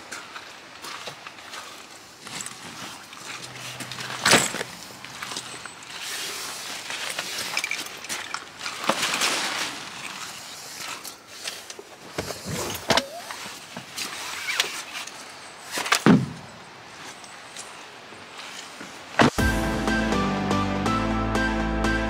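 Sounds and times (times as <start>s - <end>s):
rustling of bags and clothing: 0.0s - 19.4s.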